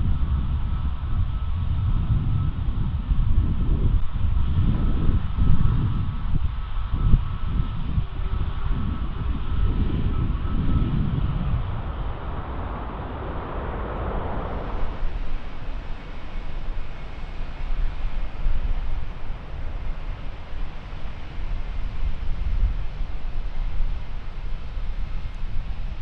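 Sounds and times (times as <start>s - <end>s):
jet engine rumble: 0.0s - 26.0s
wind buffeting microphone: 0.0s - 26.0s.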